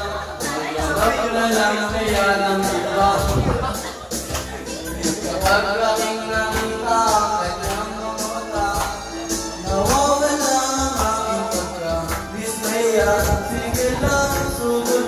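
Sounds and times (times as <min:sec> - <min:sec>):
man singing into a microphone: 0:00.0 - 0:15.0
music backing track: 0:00.0 - 0:15.0.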